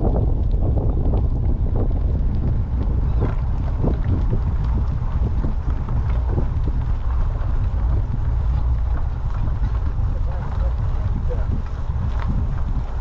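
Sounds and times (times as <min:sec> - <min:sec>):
bicycle tyres rolling on gravel: 0:00.0 - 0:13.0
wind blowing across microphone: 0:00.0 - 0:13.0.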